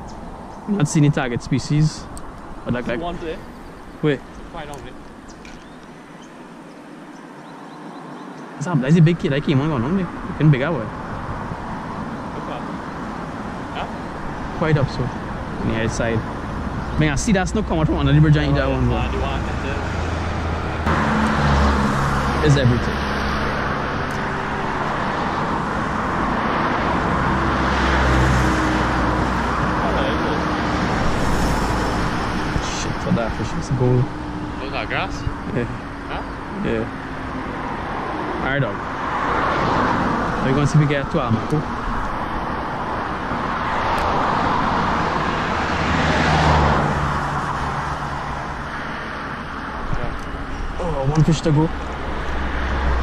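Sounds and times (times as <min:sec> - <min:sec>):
car engine and tyre noise: 0:00.0 - 0:53.0
truck passing by: 0:08.8 - 0:53.0.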